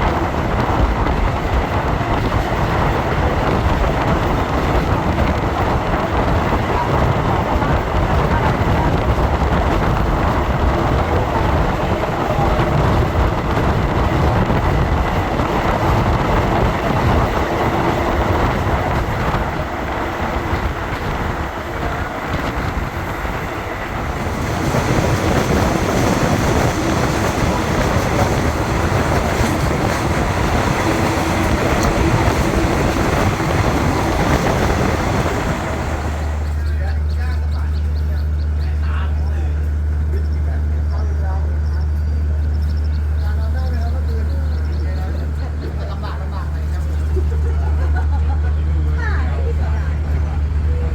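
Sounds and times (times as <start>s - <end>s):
train rumbling along track: 0.0s - 50.9s.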